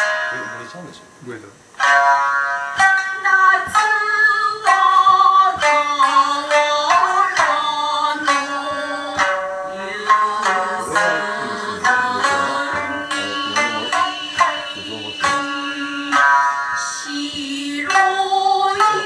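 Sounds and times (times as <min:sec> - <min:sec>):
shamisen plucked in sharp strokes: 0:00.0 - 0:19.0
woman singing sliding notes: 0:02.7 - 0:19.0.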